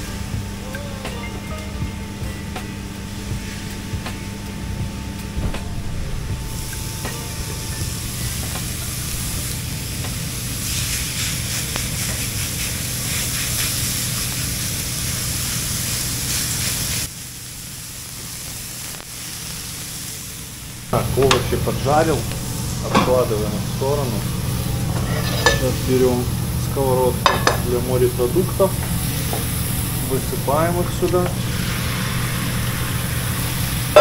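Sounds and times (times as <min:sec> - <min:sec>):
patties and vegetables sizzling: 0:00.0 - 0:34.0
steady low hum: 0:00.0 - 0:34.0.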